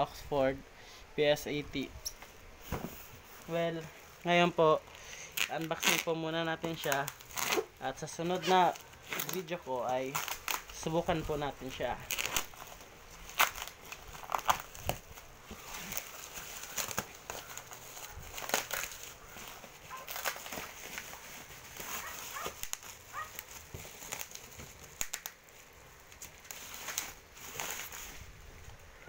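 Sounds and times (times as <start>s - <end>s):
plastic wrap crinkling: 3.2s - 28.3s
sharp crackles: 3.4s - 29.0s.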